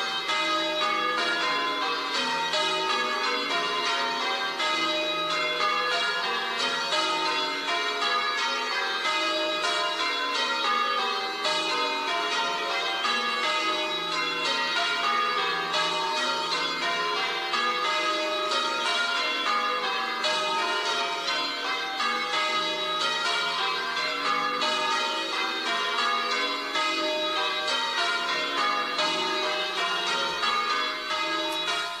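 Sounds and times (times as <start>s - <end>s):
church bells pealing: 0.0s - 32.0s.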